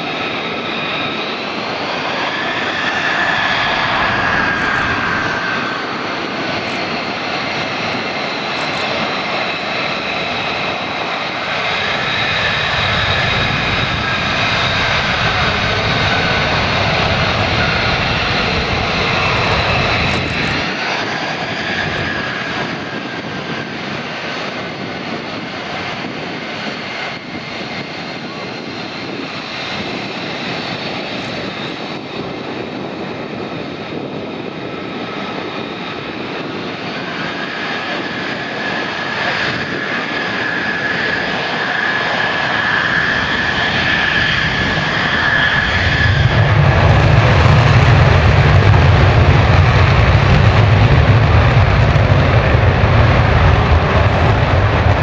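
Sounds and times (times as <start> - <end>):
jet engine deep rumble: 0.0 - 55.0
jet engine whine: 0.0 - 55.0.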